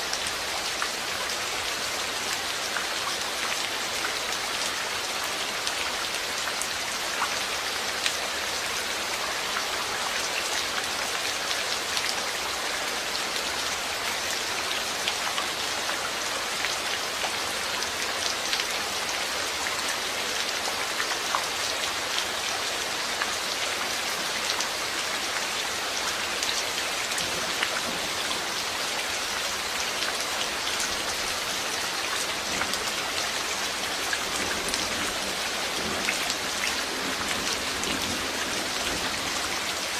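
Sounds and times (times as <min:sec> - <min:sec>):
raindrops pattering on a surface: 0:00.0 - 0:39.9
steady rain falling: 0:00.0 - 0:39.9.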